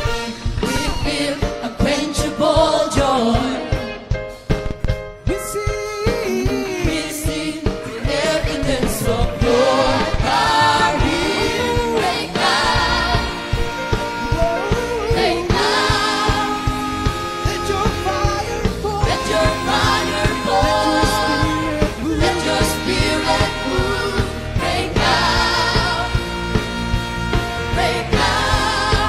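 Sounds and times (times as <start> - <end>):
instrumental backing with beat: 0.0 - 29.0
group singing worship song: 0.6 - 4.0, 6.7 - 29.0.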